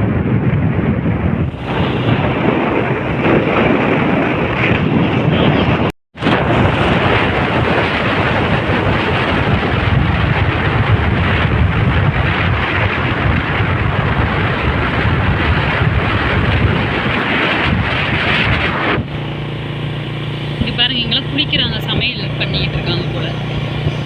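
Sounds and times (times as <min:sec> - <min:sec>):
motorcycle engine and road noise: 0:00.0 - 0:24.0
wind rushing on microphone: 0:00.0 - 0:24.0.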